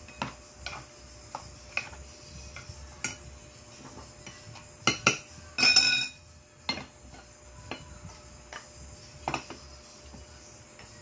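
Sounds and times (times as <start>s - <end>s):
utensils clinking on pot and bowl: 0.0s - 9.6s.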